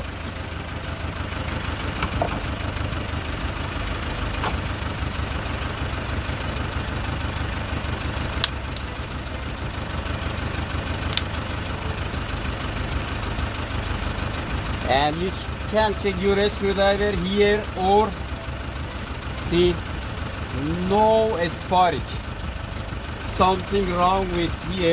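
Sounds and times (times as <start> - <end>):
misfiring engine idling: 0.0 - 24.9.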